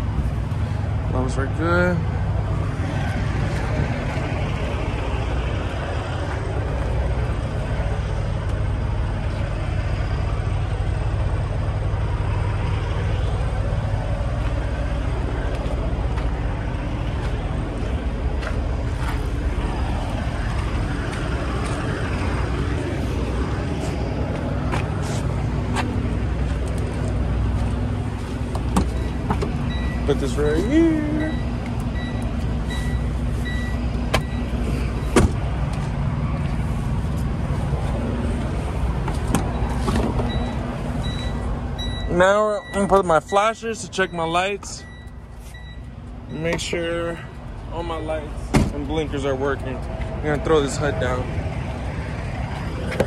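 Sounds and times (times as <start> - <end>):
diesel truck engines idling: 0.0 - 53.0.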